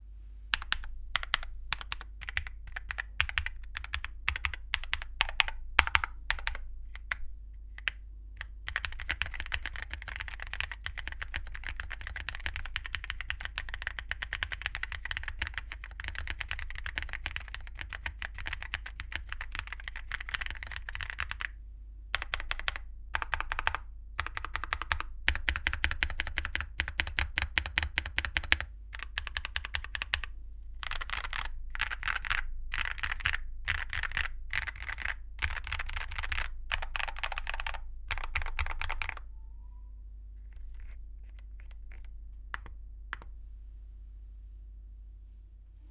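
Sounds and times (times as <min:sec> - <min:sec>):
mechanical keyboard typing: 0:00.5 - 0:21.5, 0:22.2 - 0:39.3, 0:40.5 - 0:43.3.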